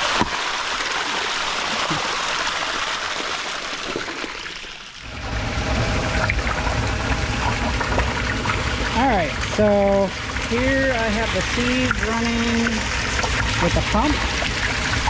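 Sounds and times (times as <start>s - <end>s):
pump humming: 0.0s - 15.0s
water rushing and splashing: 0.0s - 15.0s.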